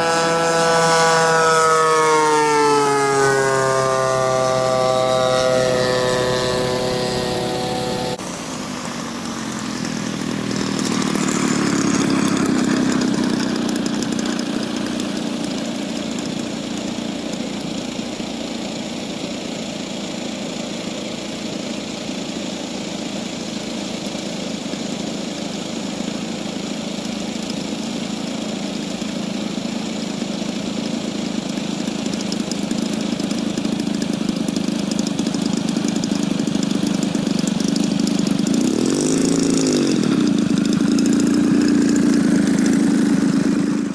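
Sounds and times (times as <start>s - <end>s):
model airplane engine running: 0.0s - 43.9s.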